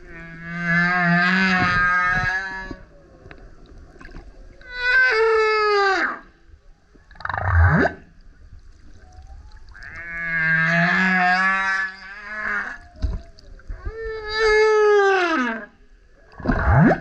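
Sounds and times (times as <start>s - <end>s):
humpback whale singing: 0.0s - 3.6s, 4.4s - 6.5s, 8.8s - 17.0s.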